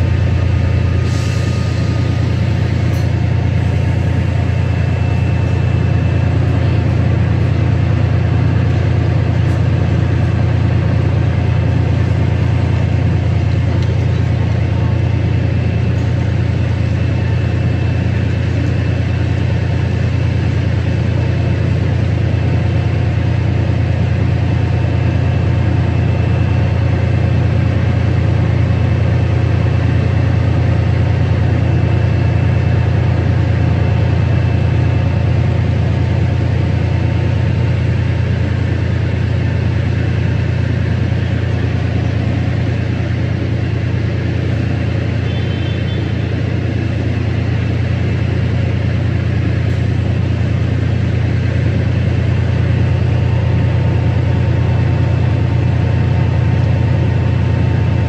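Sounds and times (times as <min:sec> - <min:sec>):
locomotive engine idling: 0:00.0 - 0:58.0.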